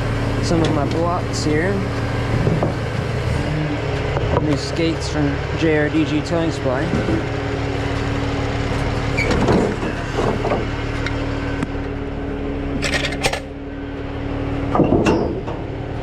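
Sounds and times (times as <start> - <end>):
truck engine idling: 0.0 - 14.9.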